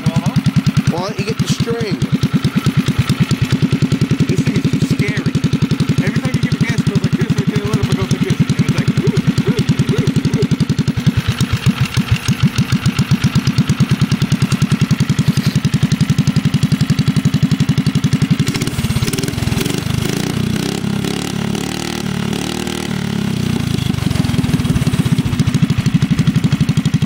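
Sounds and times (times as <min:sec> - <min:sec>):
small engine idling and revving: 0:00.0 - 0:27.0.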